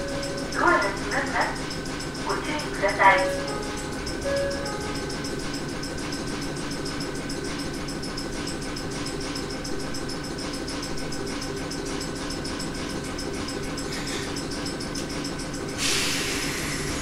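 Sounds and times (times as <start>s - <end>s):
air compressor chugging: 0.0s - 17.0s
steady whine: 0.0s - 17.0s.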